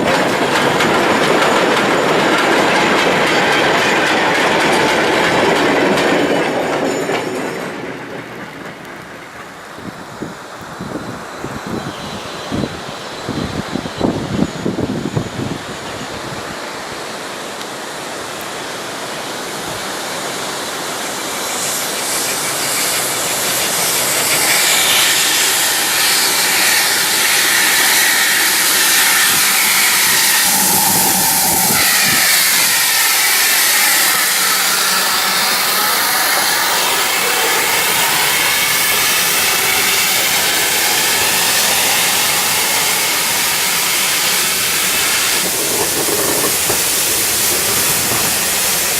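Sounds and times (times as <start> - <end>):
steam locomotive hissing: 0.0 - 48.9.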